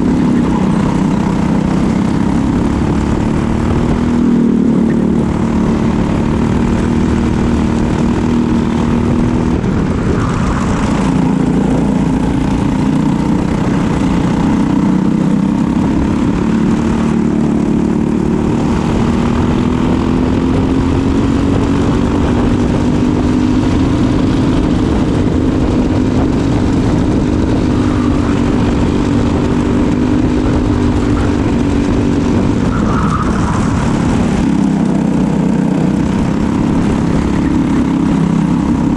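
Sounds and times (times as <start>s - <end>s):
kart engine racing: 0.0s - 38.9s.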